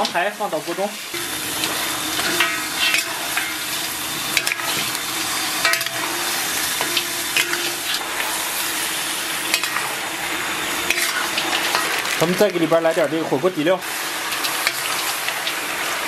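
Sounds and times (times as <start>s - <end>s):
meat sizzling in hot oil: 0.0s - 16.0s
metal spatula scraping wok: 1.1s - 16.0s.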